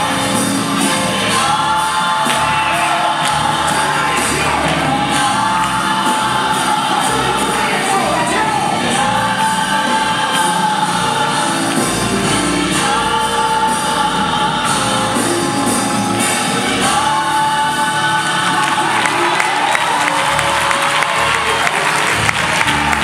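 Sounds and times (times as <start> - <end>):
gospel song with choir: 0.0 - 23.0.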